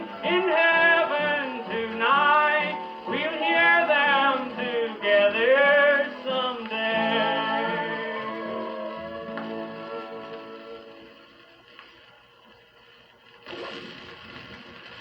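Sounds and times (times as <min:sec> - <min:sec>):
old country string-band record: 0:00.0 - 0:15.0.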